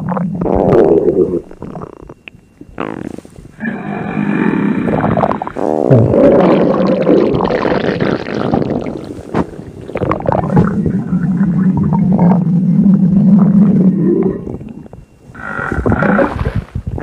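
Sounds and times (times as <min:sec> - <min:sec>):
stomach grumbling: 0:00.0 - 0:17.0.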